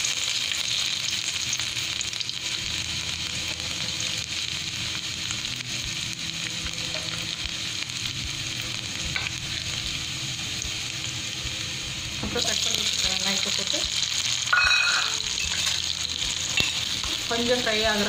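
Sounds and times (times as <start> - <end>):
garlic sizzling in oil: 0.0 - 18.0.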